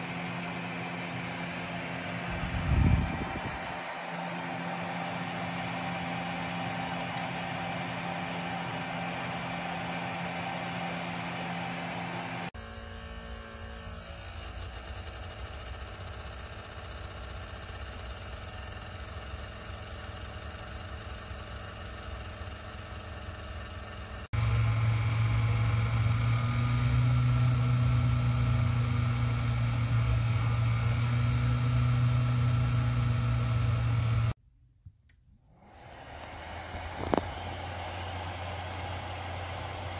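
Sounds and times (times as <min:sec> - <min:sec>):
space heater fan whirring: 0:00.0 - 0:34.4, 0:35.5 - 0:39.9.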